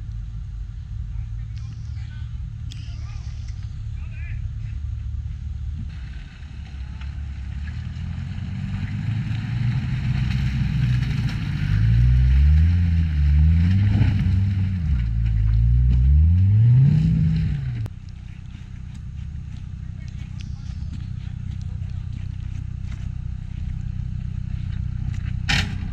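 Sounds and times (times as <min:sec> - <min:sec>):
off-road engine revving: 0:00.0 - 0:25.9.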